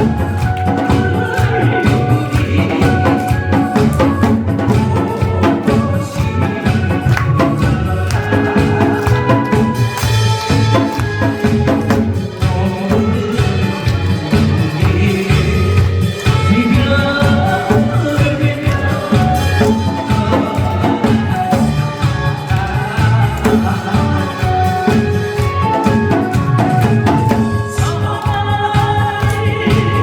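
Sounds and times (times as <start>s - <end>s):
upbeat recorded music: 0.0s - 30.0s.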